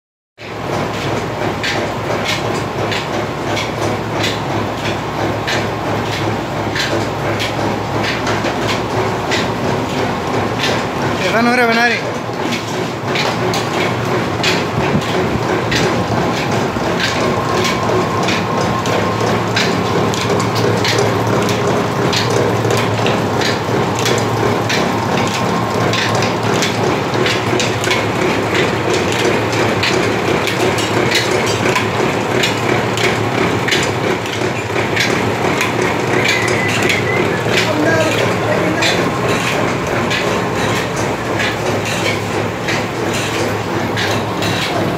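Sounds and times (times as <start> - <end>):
oil expeller clattering: 0.4 - 44.9.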